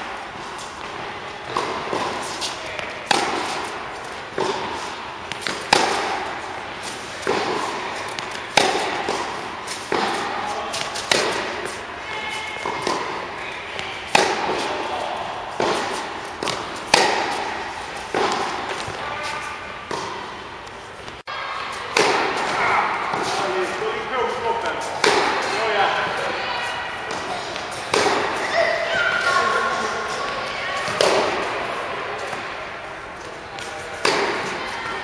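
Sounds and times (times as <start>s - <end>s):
racket hitting tennis ball: 0.0s - 21.3s, 21.9s - 26.2s, 27.0s - 35.0s.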